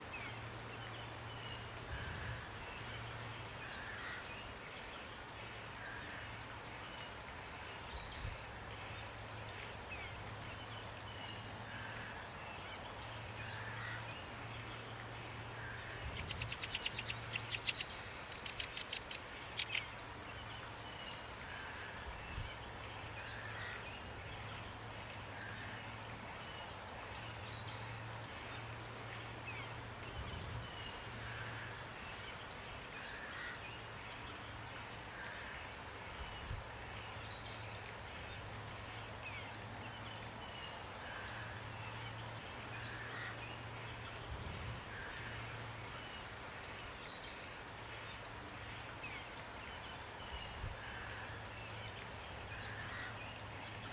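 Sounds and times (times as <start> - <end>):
rain hiss: 0.0 - 53.9
songbirds chirping: 0.0 - 53.9.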